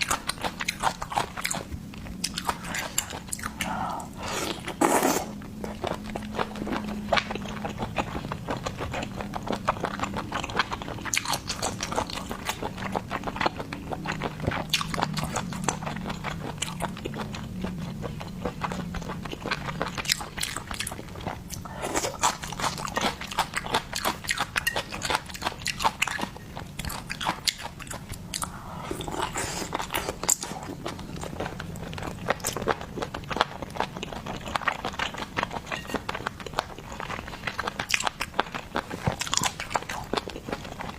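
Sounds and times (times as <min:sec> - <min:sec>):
chewing and biting seafood: 0:00.0 - 0:40.9.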